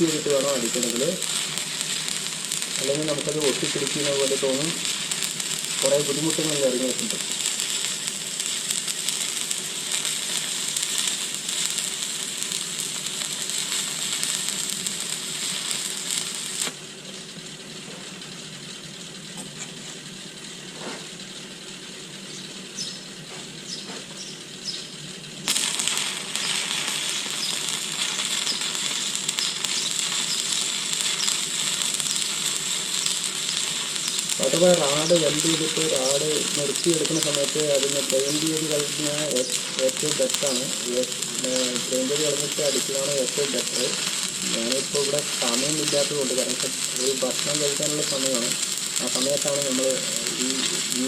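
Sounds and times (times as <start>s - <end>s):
welding arc crackling: 0.0s - 51.0s.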